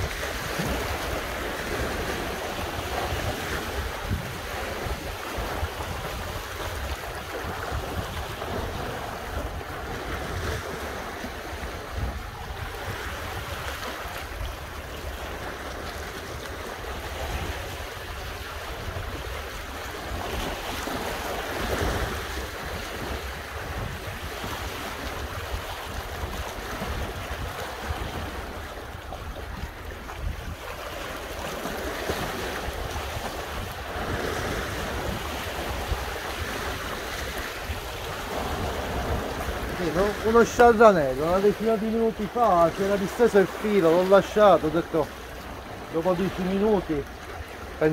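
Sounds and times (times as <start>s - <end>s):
wind buffeting microphone: 0.0s - 43.0s
waves washing on shore: 0.0s - 47.9s.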